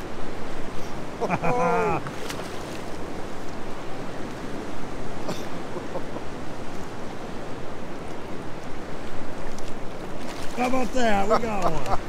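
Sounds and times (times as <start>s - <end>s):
river water rushing: 0.0s - 12.0s
wind: 0.0s - 12.0s.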